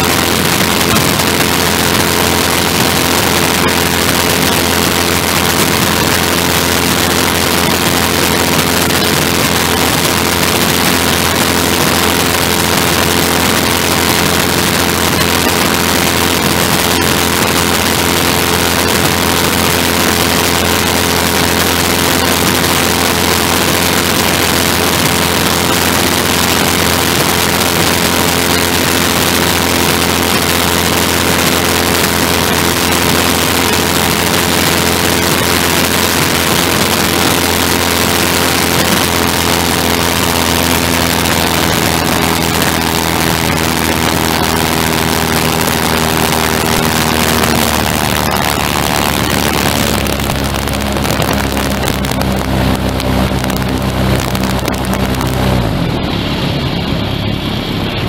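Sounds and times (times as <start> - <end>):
engine droning: 0.0 - 58.0
rushing noise: 0.0 - 58.0.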